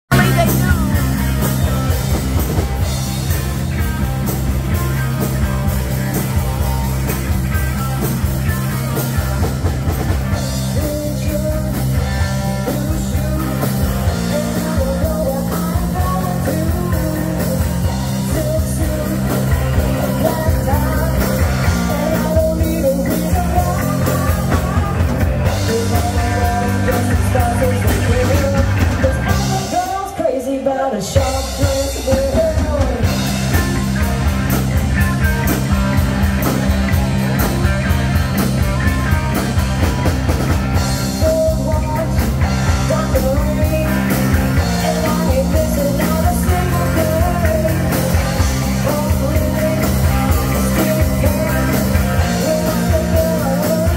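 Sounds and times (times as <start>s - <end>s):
person singing: 0.0s - 2.2s, 3.3s - 53.9s
bass guitar: 0.0s - 53.9s
drums: 0.0s - 53.9s
electric guitar: 0.0s - 53.9s
keyboard: 0.0s - 53.9s.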